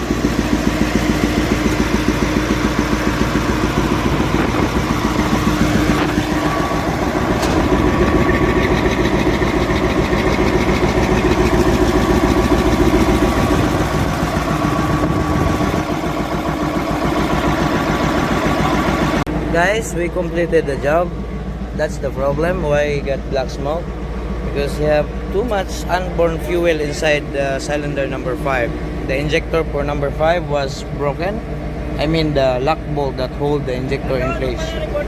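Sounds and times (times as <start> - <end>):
diesel engine running steadily: 0.0 - 35.0.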